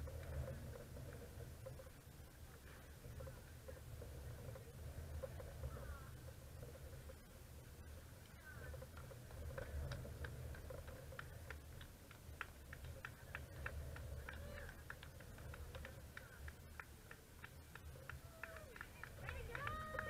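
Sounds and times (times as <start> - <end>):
faint ticks and chirps: 0.0 - 20.0
low steady rumble: 0.0 - 20.0.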